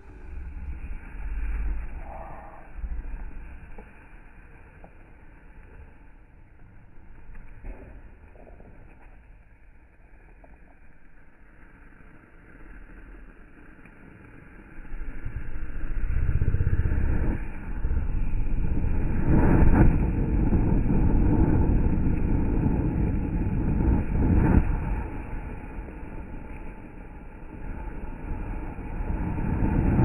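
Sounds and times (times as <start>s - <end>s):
firework fountain spraying sparks: 0.0s - 30.0s.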